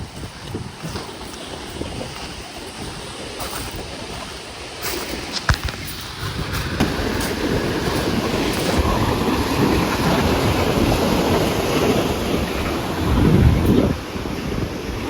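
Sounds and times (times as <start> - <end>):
sea waves rushing: 0.0 - 15.0
wind buffeting microphone: 0.0 - 15.0.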